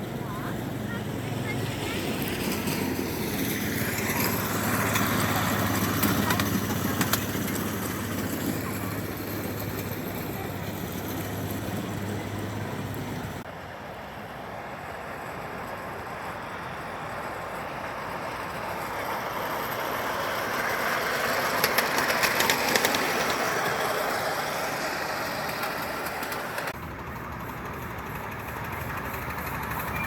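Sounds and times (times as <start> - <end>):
wheels clattering on rails: 0.0 - 13.5, 14.4 - 30.0
miniature train rumbling: 0.0 - 30.0.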